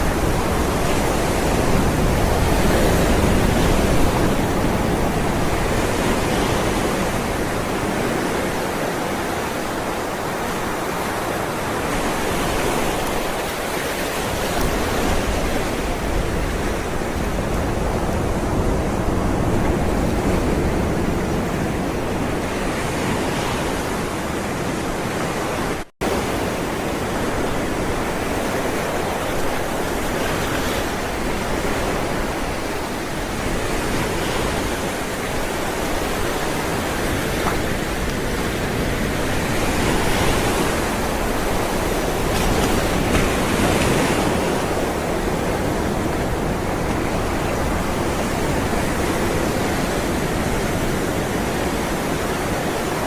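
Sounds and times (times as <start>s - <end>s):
waves washing onto shore: 0.0s - 53.0s.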